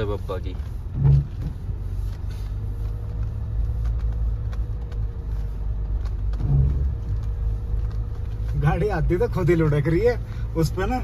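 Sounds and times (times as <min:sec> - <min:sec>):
vehicle engine rumble from inside: 0:00.0 - 0:11.0.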